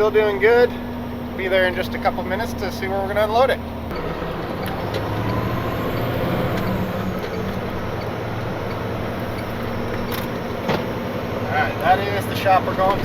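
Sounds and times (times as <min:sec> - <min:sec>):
road noise: 0:00.0 - 0:13.0
truck engine hum: 0:00.0 - 0:13.0.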